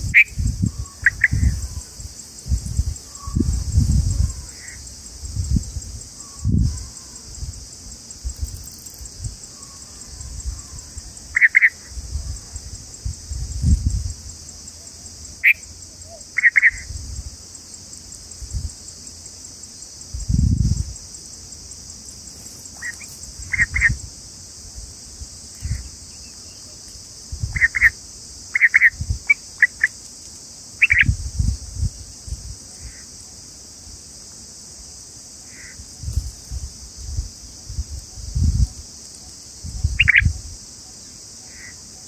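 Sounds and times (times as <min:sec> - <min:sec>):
steady high hiss: 0:00.0 - 0:42.0.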